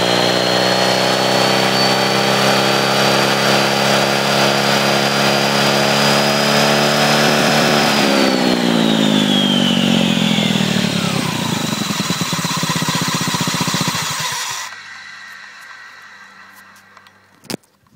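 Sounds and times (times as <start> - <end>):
scooter engine running: 0.0 - 17.6
high whine: 0.0 - 17.9.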